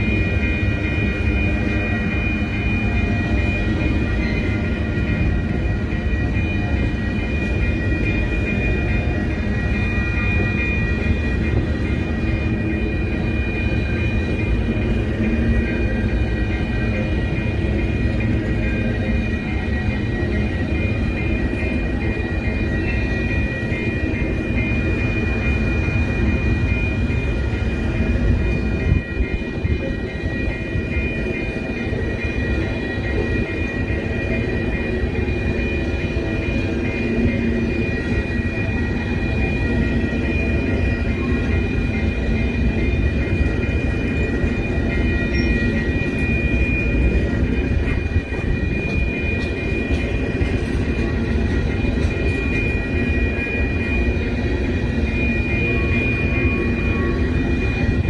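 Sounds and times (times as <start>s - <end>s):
train wheels clattering on rail: 0.0s - 58.0s.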